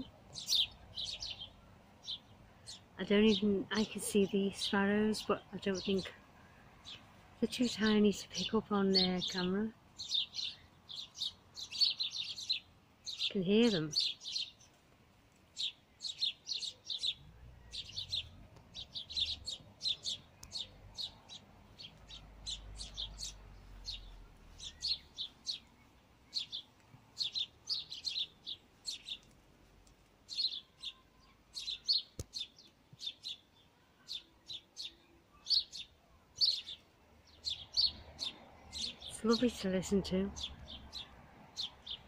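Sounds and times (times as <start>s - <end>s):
sparrows chirping: 0.0s - 42.0s.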